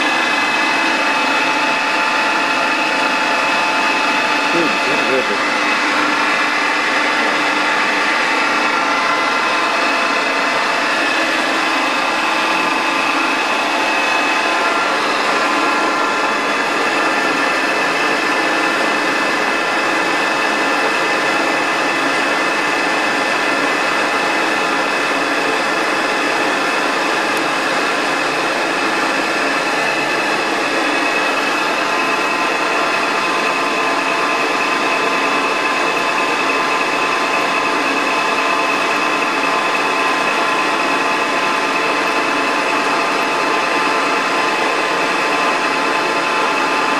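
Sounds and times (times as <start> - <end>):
high machine whine: 0.0 - 46.9
metal lathe running: 0.0 - 46.9.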